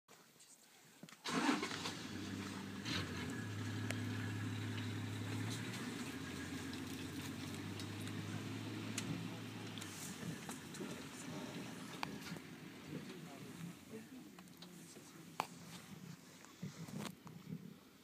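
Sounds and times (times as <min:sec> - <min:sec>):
vehicle engine idling: 0:01.3 - 0:17.2.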